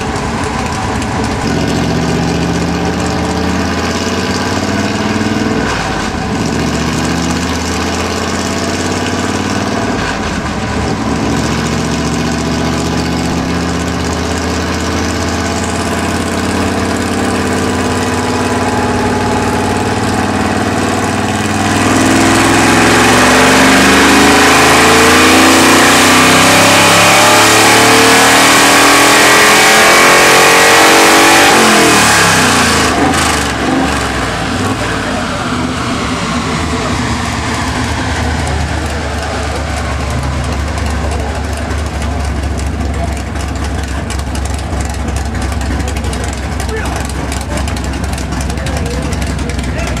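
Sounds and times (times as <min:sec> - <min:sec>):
truck engine revving on dyno: 0:00.0 - 0:50.0.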